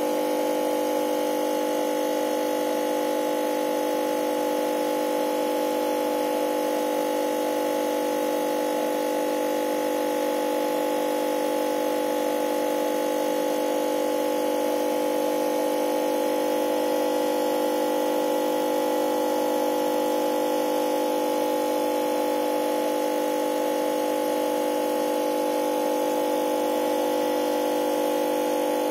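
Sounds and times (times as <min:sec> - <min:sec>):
air pump humming: 0:00.0 - 0:28.9.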